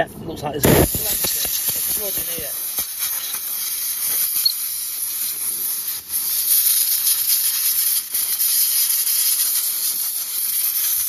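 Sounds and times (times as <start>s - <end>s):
aerosol spray hissing: 0.6s - 11.0s.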